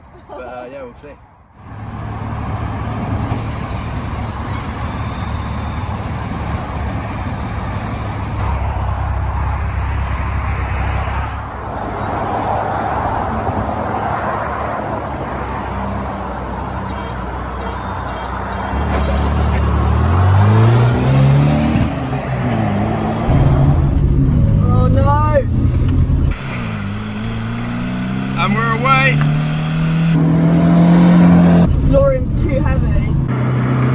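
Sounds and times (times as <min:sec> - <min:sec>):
car engines idling: 0:01.6 - 0:33.9.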